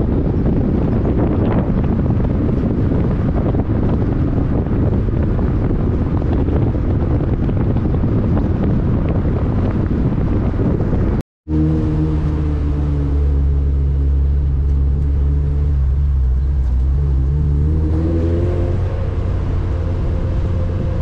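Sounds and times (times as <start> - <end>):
car engine drone: 0.0 - 21.0
road noise: 0.0 - 21.0
wind buffeting microphone: 0.0 - 21.0.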